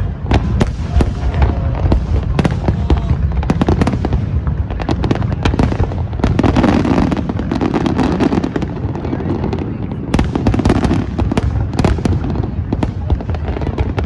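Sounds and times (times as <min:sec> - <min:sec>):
fireworks bursts and crackles: 0:00.0 - 0:14.0.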